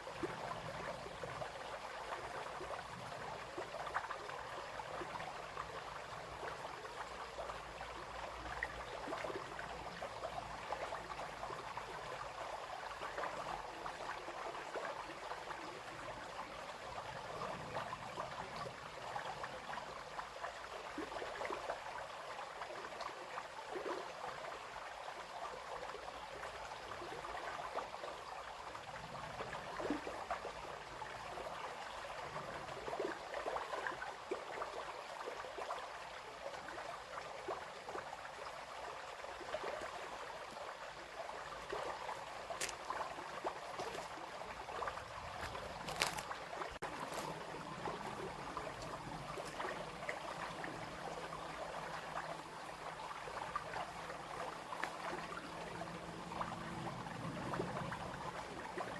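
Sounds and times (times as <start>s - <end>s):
brook babbling over stones: 0.0s - 58.9s.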